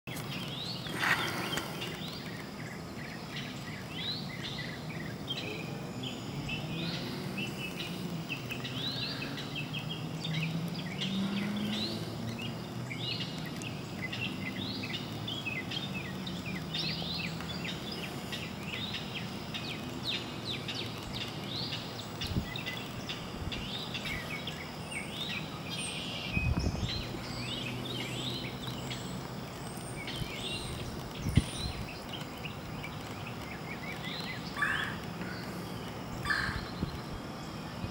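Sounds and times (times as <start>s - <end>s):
high chirping calls: 0.1s - 37.9s
low drone: 0.1s - 37.9s.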